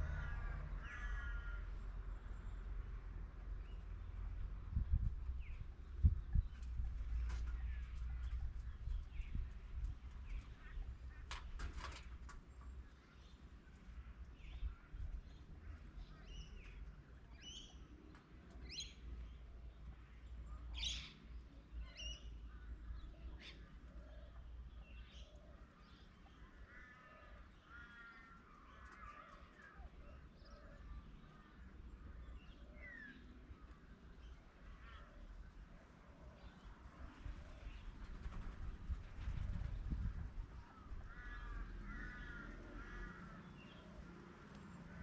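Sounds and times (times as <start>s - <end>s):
birds calling faintly: 0.0s - 45.0s.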